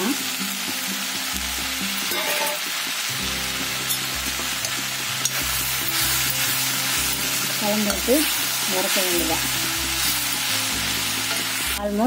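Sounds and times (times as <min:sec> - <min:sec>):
background music with low notes: 0:00.0 - 0:12.0
vegetables sizzling in a pan: 0:00.0 - 0:12.0.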